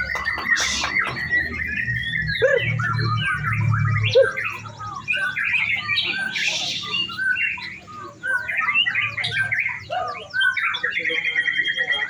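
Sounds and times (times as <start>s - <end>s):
birds singing in chorus: 0.0s - 12.0s.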